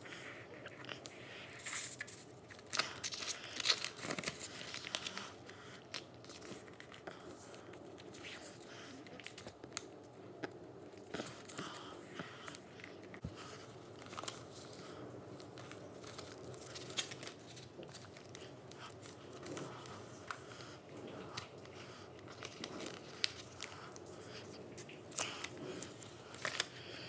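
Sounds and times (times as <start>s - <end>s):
paper crinkling and rustling: 0.1s - 10.2s, 10.9s - 27.0s.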